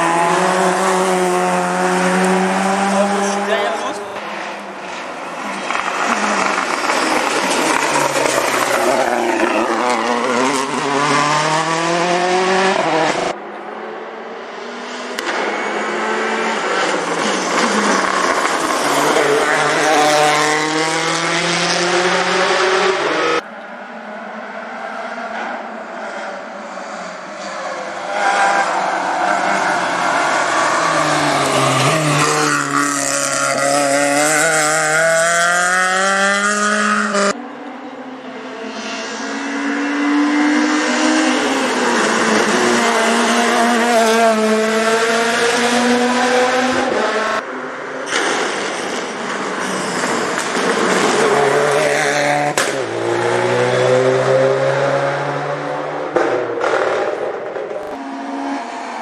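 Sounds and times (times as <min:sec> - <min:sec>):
rally car engine racing: 0:00.0 - 0:59.0.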